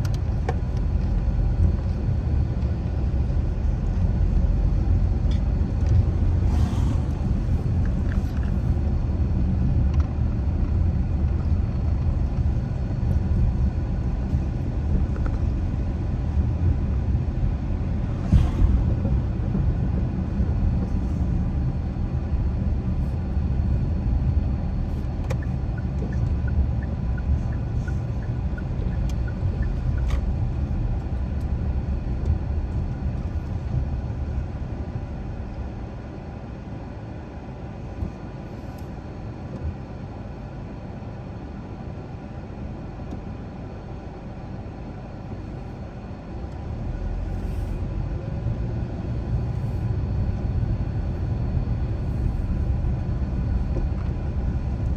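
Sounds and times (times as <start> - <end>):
car engine and tyre rumble: 0.0 - 54.9.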